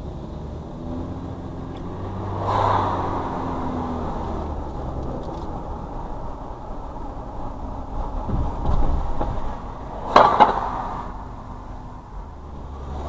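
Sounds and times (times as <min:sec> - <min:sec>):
car tyre and engine rumble: 0:00.0 - 0:13.0.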